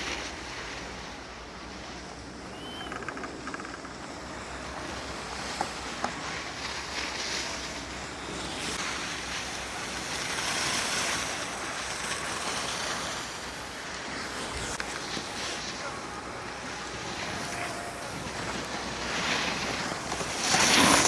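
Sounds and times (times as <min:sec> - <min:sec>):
hiss of sliding over snow: 0:00.0 - 0:02.7, 0:04.1 - 0:21.0.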